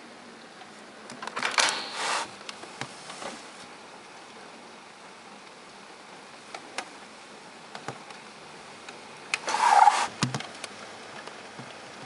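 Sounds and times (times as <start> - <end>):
rain falling: 2.1 - 12.0.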